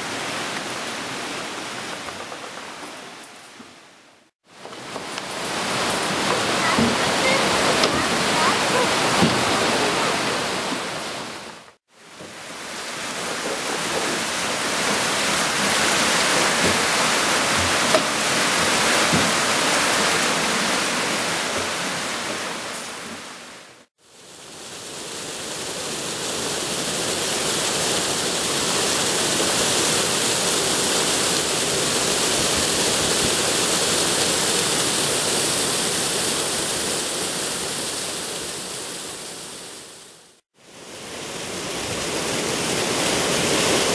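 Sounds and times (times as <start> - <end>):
water rushing down river rapid: 0.0 - 43.9
water splashing through water wheel: 4.4 - 40.0, 40.7 - 43.9.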